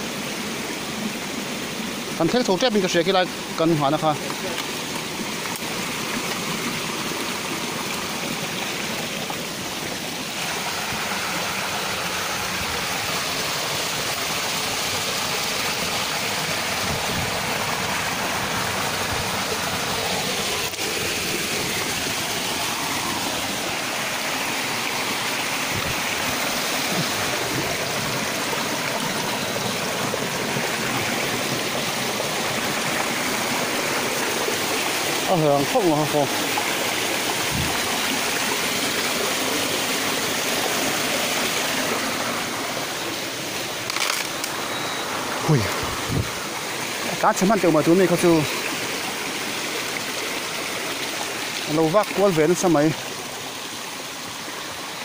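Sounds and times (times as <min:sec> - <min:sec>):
stream water running over rocks: 0:00.0 - 0:55.0.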